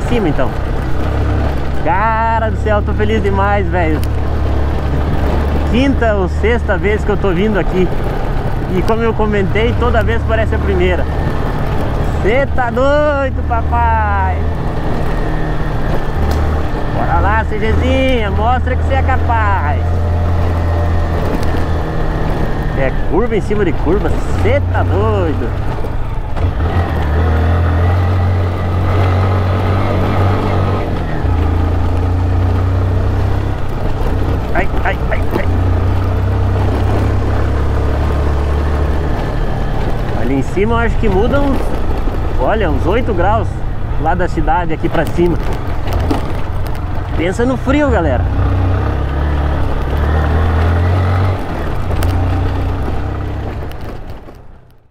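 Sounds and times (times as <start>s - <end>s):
motorcycle engine under load: 0.0s - 54.9s
road noise: 0.0s - 54.9s.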